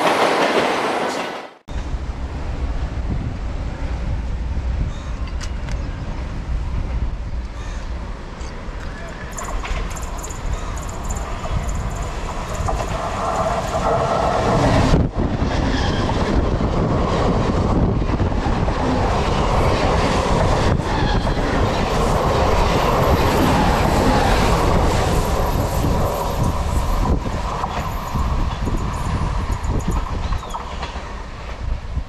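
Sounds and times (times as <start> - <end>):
train rumbling and clattering on rails: 0.0 - 32.0.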